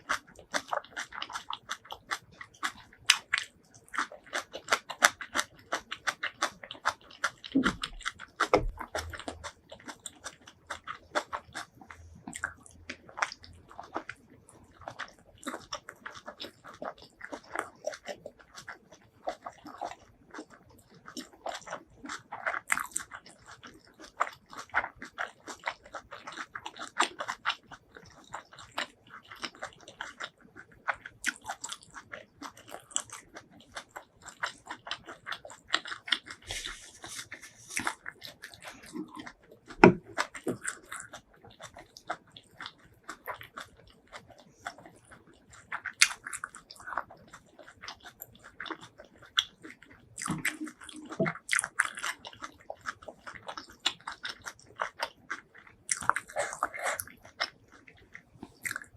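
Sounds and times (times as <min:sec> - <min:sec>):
person biting and chewing food: 0:00.0 - 0:14.2, 0:14.8 - 0:58.9.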